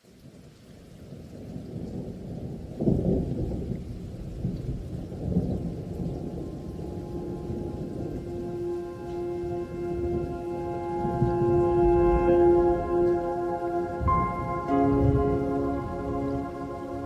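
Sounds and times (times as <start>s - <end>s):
rain: 0.0s - 17.0s
rolling thunder: 1.3s - 17.0s.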